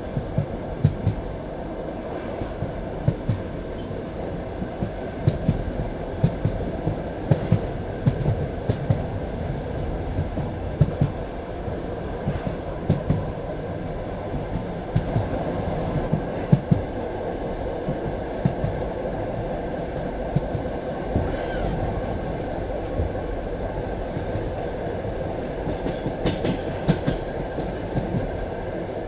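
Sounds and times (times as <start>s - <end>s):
train carriage rumbling on track: 0.0s - 29.0s.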